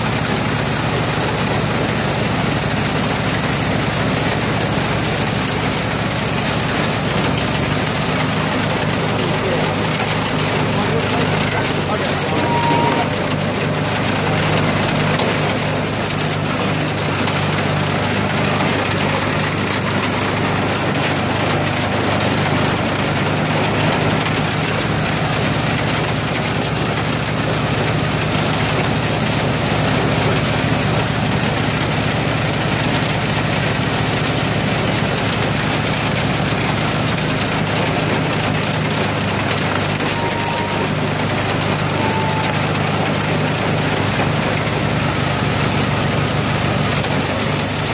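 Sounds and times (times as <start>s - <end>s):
chainsaw cutting log: 0.0s - 47.9s
hydraulic power unit humming: 0.0s - 47.9s
log splitter forcing wood: 0.0s - 47.9s.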